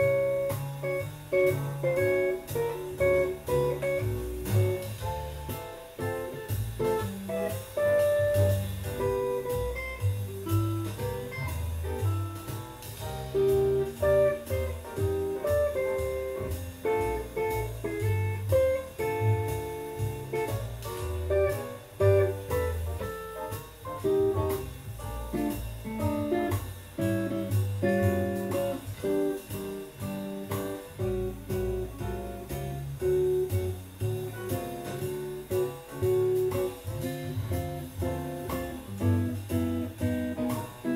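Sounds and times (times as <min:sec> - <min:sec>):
electric guitar melody: 0:00.0 - 0:24.6, 0:25.2 - 0:40.9
bass line: 0:00.0 - 0:40.9.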